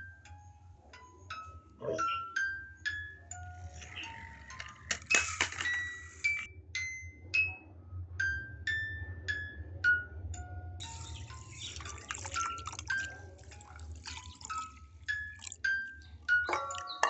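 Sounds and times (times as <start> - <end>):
chime-like music notes: 0.0 - 5.0, 5.6 - 17.0.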